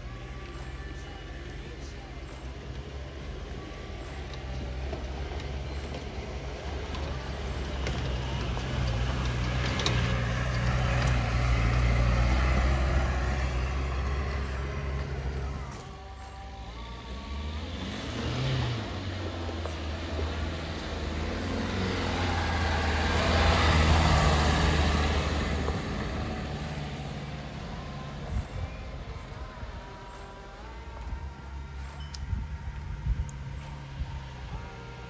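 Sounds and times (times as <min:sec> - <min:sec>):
engine and tyre noise climbing: 0:00.0 - 0:35.0
off-road engine humming: 0:00.0 - 0:35.0.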